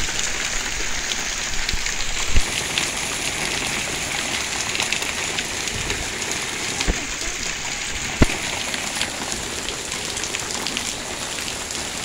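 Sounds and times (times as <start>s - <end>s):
hailstones hitting the ground: 0.0s - 12.0s.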